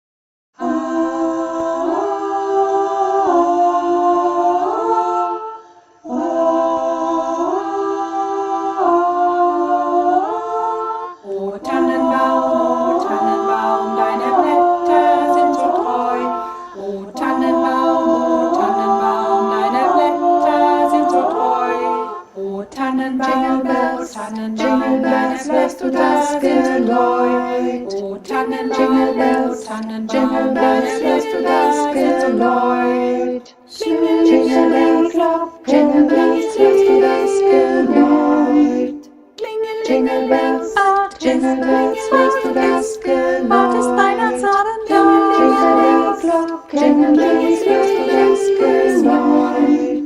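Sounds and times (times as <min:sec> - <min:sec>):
women's choir singing a cappella: 0:00.6 - 0:50.0.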